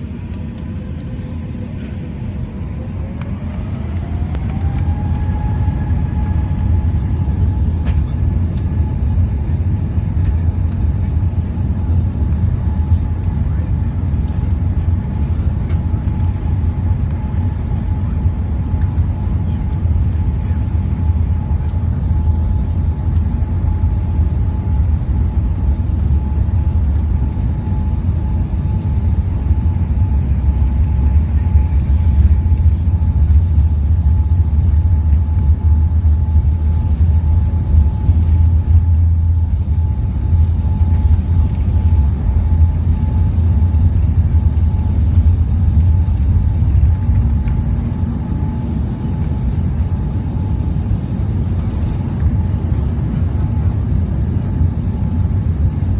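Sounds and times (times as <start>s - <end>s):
jet engines rumbling at takeoff: 0.0s - 55.9s.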